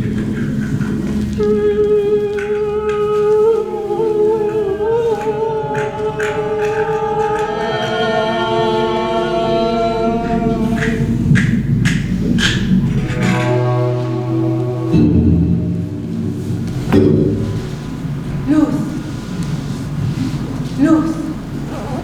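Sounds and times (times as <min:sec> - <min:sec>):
voices singing sustained notes: 0:00.0 - 0:20.6.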